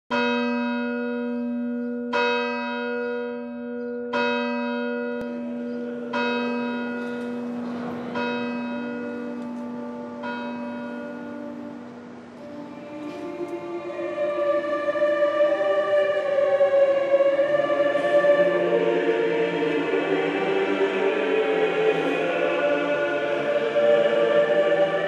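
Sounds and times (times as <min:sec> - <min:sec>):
church bell tolling: 0:00.1 - 0:25.0.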